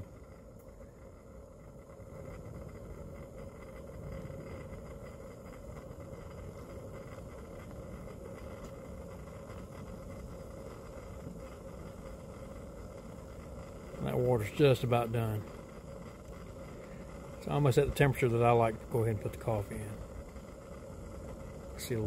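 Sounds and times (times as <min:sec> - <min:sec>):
pot of water heating and ringing: 0:00.0 - 0:22.0.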